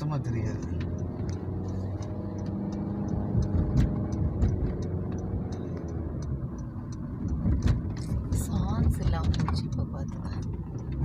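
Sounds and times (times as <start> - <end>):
car engine running: 0.0 - 11.0
light regular ticking: 0.0 - 11.0.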